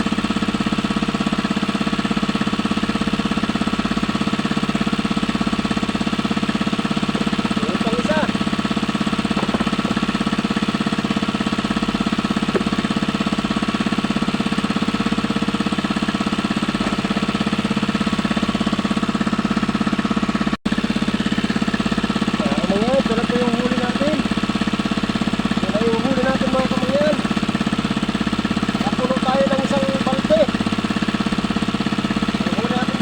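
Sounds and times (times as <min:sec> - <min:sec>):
small engine chugging: 0:00.0 - 0:33.0.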